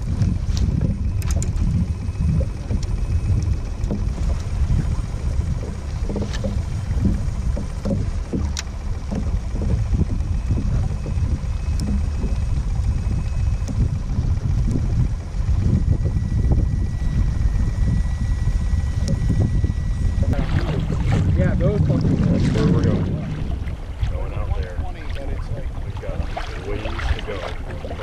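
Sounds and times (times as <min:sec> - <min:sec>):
low rumble of kayak on water: 0:00.0 - 0:28.0.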